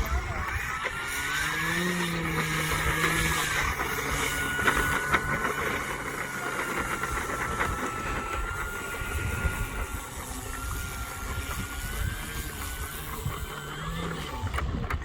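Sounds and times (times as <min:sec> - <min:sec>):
model airplane motor whine: 0:00.0 - 0:15.0
wind buffeting microphone: 0:00.0 - 0:15.0.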